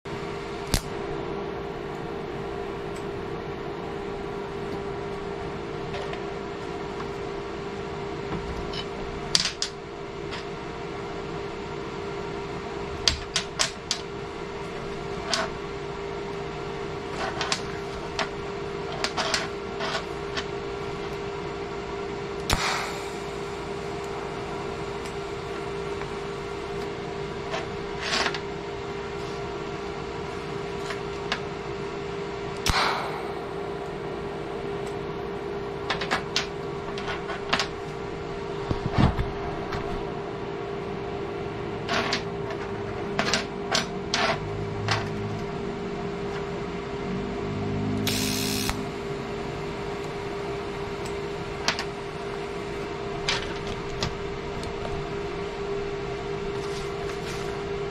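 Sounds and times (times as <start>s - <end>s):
steady low hum: 0.1s - 57.9s.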